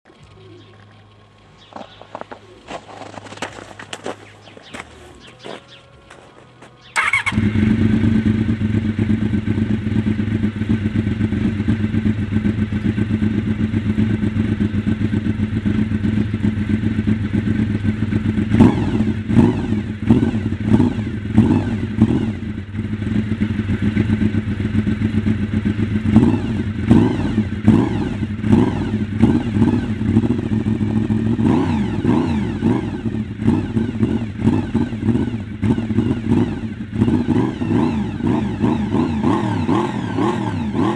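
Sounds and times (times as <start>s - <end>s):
motorcycle engine idling: 0.1s - 40.9s
motorcycle engine revving: 0.1s - 40.9s.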